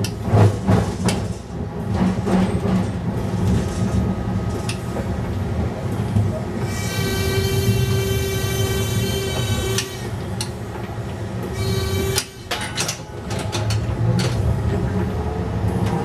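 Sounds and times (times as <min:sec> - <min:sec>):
streetcar rumble: 0:00.0 - 0:16.0.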